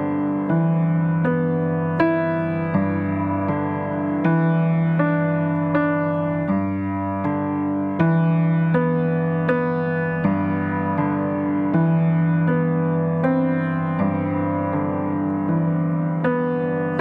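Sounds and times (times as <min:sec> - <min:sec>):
slow piano notes and chords: 0:00.0 - 0:17.0.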